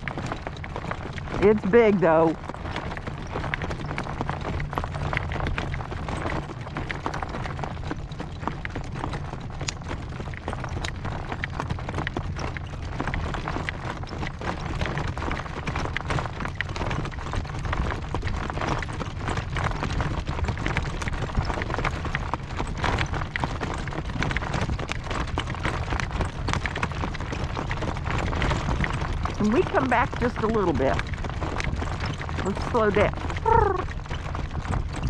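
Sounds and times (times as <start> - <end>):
horse hooves clip-clopping: 0.0 - 35.0
wind rumbling on microphone: 0.0 - 35.0.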